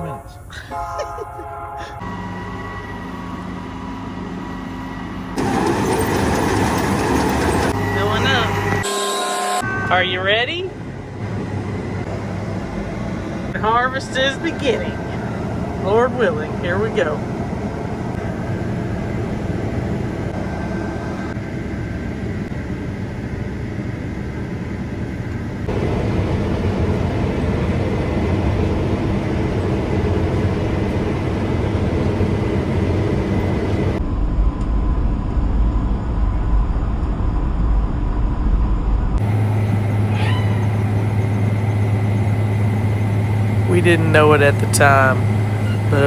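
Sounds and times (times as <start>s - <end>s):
combine harvester engine drone: 0.0s - 35.0s, 38.9s - 46.0s.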